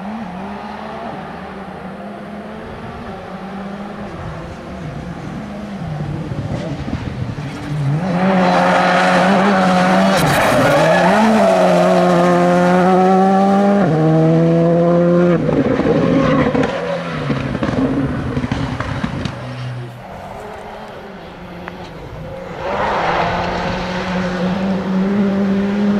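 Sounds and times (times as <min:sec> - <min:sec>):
rally car engine at full throttle: 0:00.0 - 0:25.9.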